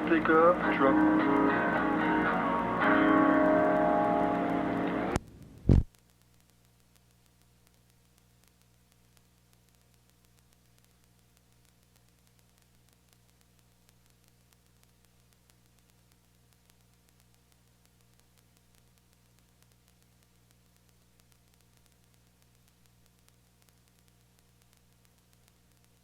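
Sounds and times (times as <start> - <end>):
faint low hum with hiss: 0.0 - 26.0.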